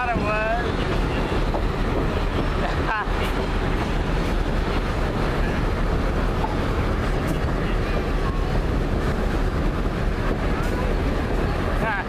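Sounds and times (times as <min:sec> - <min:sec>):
moving train rumbling: 0:00.0 - 0:12.0
wind on microphone: 0:00.0 - 0:12.0.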